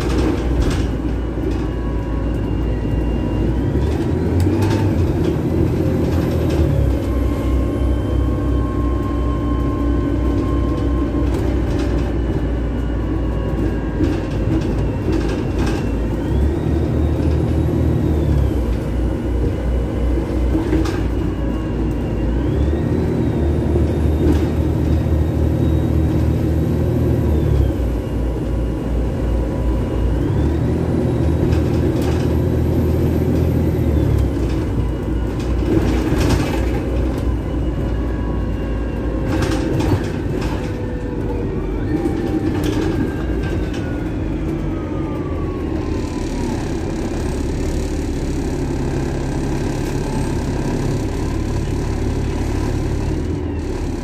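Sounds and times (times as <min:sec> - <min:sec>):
bus engine running: 0:00.0 - 0:54.0
high engine whine: 0:00.0 - 0:54.0.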